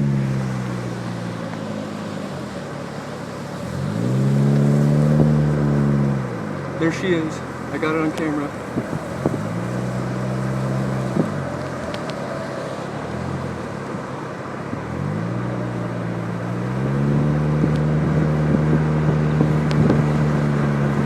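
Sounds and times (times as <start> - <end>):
car engine from inside cabin: 0.0 - 21.0
road and wind noise: 0.0 - 21.0.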